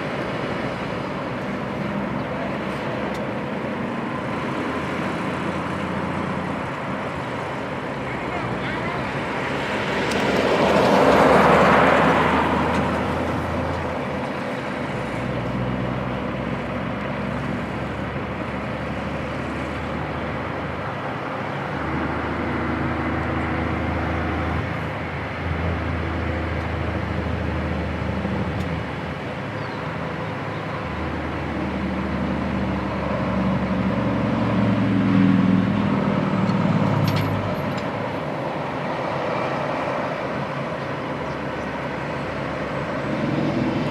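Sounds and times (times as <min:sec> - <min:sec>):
diesel truck engines revving: 0:00.0 - 0:43.9.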